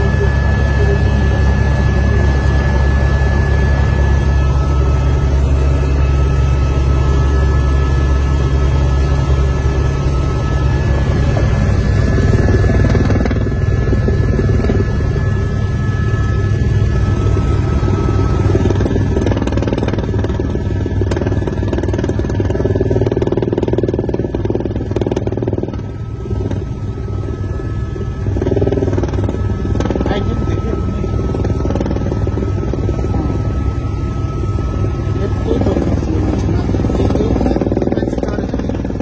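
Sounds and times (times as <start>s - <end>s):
helicopter engine and rotor drone: 0.0s - 39.0s.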